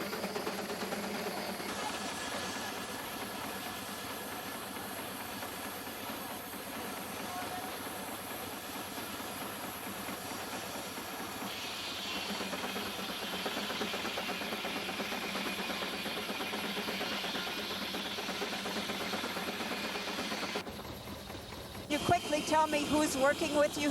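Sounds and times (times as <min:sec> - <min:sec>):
steam engine running: 0:00.0 - 0:23.9
steam hissing: 0:00.0 - 0:23.9.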